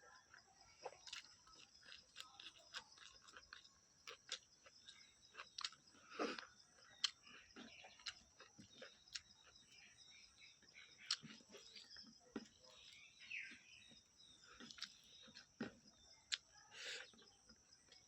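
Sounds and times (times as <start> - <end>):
person chewing: 0.8 - 10.2, 11.0 - 13.1, 14.2 - 18.0.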